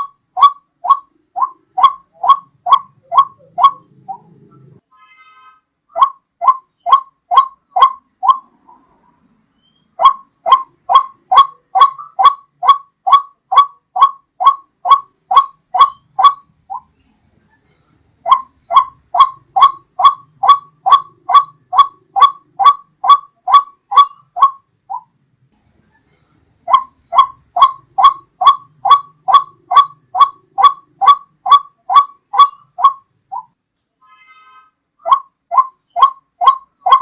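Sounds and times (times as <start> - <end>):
waterhen calling: 0.0 - 4.8, 5.9 - 8.9, 9.6 - 16.9, 18.2 - 25.1, 26.7 - 33.5, 34.2 - 37.0.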